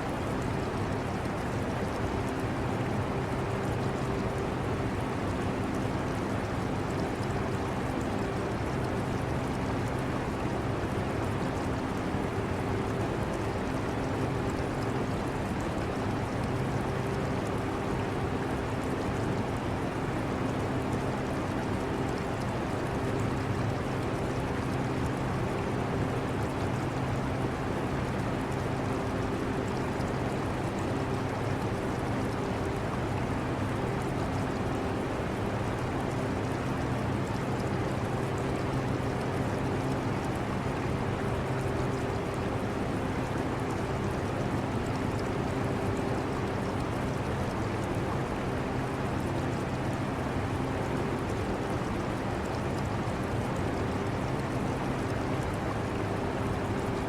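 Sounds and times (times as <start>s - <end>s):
aquarium water trickling: 0.1s - 57.0s.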